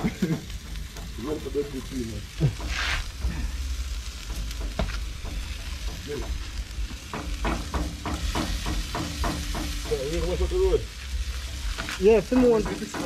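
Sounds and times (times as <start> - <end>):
steady low rumble: 0.0 - 12.9
chicken sizzling on grill: 0.0 - 13.0.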